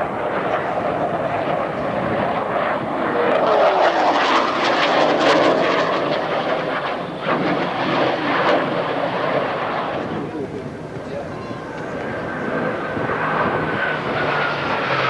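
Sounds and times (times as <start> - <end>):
jet passing low: 0.0 - 15.0.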